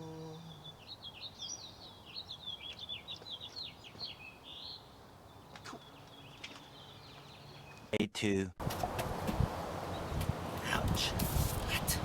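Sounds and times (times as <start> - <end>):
songbird singing: 0.0 - 8.0, 8.6 - 12.0.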